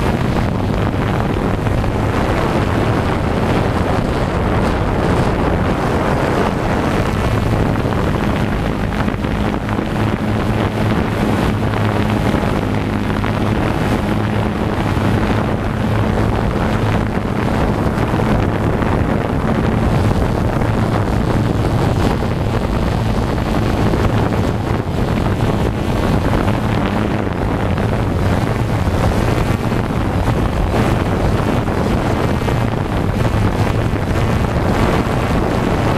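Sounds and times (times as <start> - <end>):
drone motors humming: 0.0 - 35.9
wind noise on microphone: 0.0 - 35.9.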